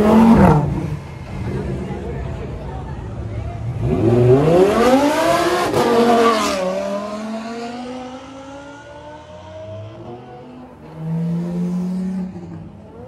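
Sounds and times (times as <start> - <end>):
sports car engine revving: 0.0 - 2.0, 3.6 - 13.0.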